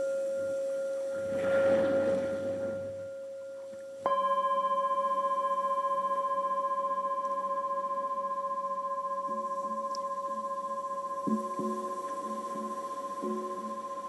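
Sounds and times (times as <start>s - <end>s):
singing bowl steady tone: 0.0s - 14.0s
singing bowl struck and ringing: 2.6s - 14.0s.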